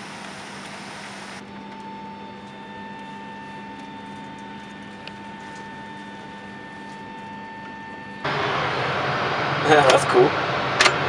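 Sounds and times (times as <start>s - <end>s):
constant high-pitched tone: 0.0s - 9.0s.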